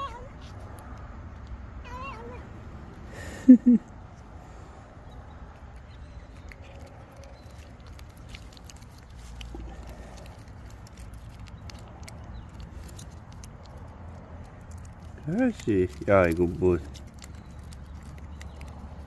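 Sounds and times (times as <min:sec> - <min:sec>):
cat chewing and licking: 0:00.0 - 0:02.4, 0:05.0 - 0:19.0.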